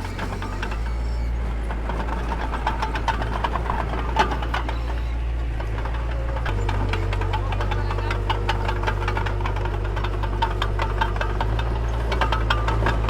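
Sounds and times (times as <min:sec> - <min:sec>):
diesel engine running: 0:00.0 - 0:13.0
rapid clicking and rattling: 0:00.0 - 0:13.0.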